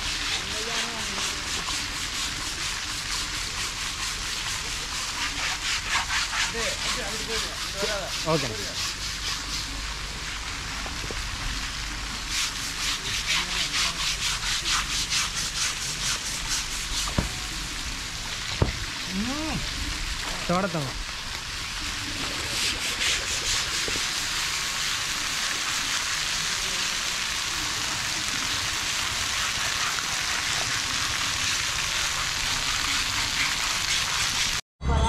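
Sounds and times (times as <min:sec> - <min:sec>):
scrubbing elephant hide: 0:00.0 - 0:21.0, 0:21.8 - 0:34.6.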